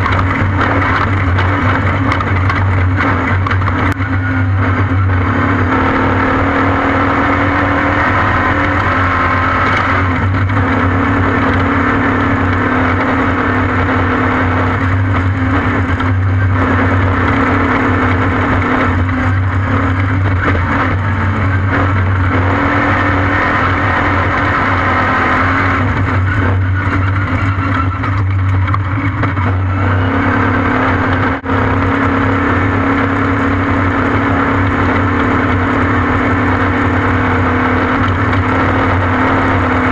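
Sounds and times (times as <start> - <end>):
continuous rushing noise: 0.0 - 39.9
race vehicle engine running: 0.0 - 39.9.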